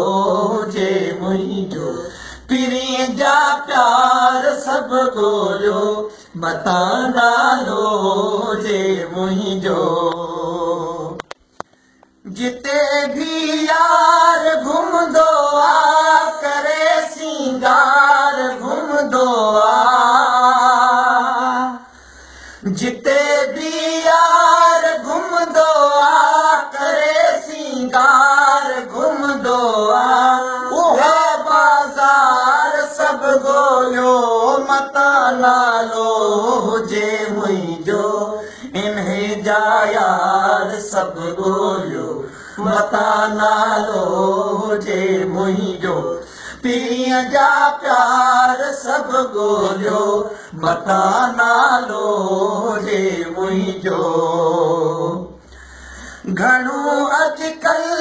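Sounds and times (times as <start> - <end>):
man singing unaccompanied: 0.0 - 11.3, 12.2 - 21.9, 22.6 - 55.5, 56.2 - 58.0.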